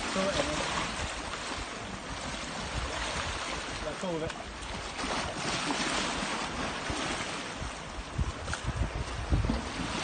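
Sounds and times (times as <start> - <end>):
sea washing against rocks: 0.0 - 10.0
wind buffeting microphone: 0.0 - 10.0.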